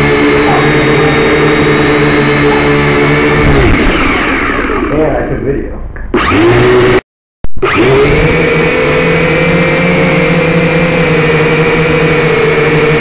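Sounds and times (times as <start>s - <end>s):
drone propellers whining: 0.0s - 5.3s, 6.0s - 7.0s, 7.6s - 13.0s.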